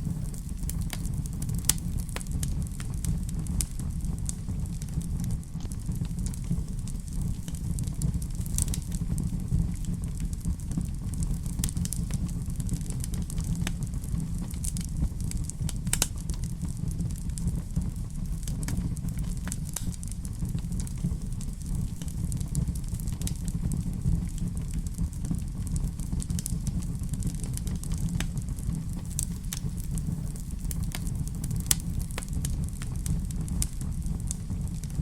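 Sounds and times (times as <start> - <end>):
sharp pops of fire: 0.0 - 35.0
wood fire crackling: 0.0 - 35.0.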